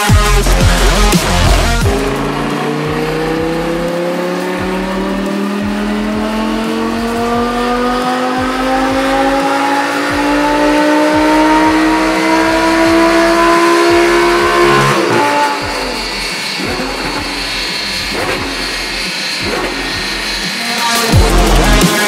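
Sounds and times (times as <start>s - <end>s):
car engine revving on dyno: 0.0s - 22.0s.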